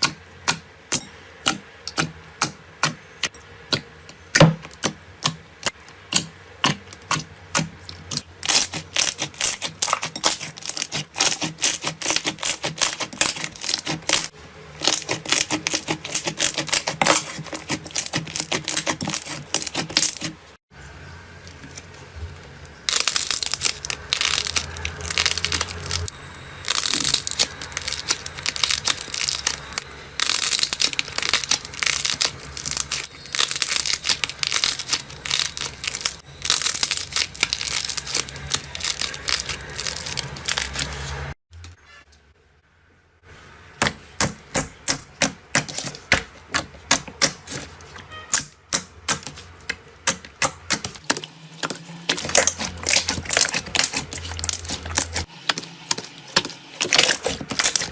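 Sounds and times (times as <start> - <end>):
crunchy slime crackling: 4.8 - 20.4, 22.5 - 41.3, 44.6 - 57.9.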